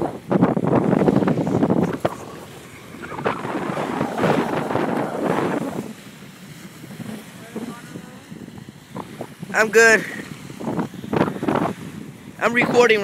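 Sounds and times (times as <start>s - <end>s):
wind gusts buffeting microphone: 0.0s - 13.0s.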